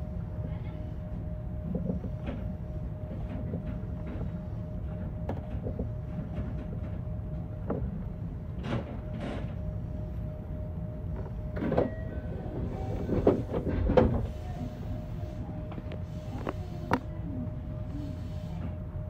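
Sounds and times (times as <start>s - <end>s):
electric train rumble: 0.0s - 19.0s.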